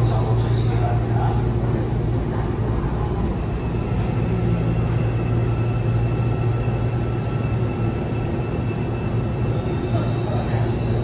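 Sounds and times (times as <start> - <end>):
train car hum: 0.0 - 11.0.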